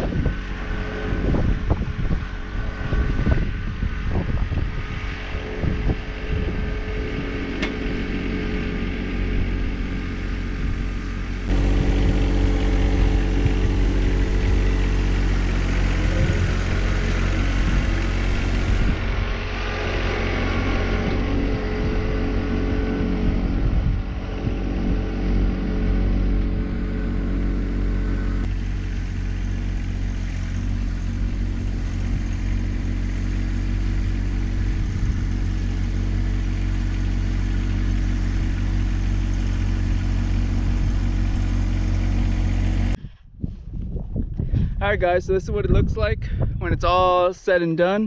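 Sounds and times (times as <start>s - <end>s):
machine engine under load: 0.0s - 43.0s.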